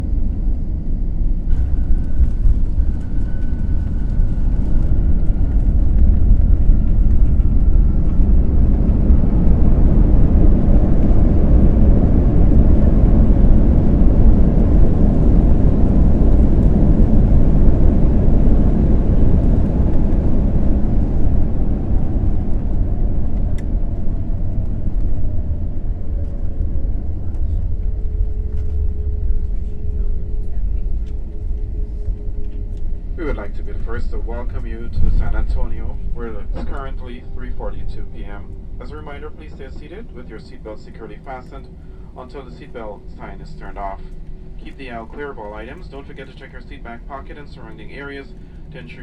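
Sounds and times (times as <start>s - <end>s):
faint engine whine falling: 0.0s - 49.0s
jet engines: 0.0s - 49.0s
wheels rumbling on runway: 0.0s - 49.0s.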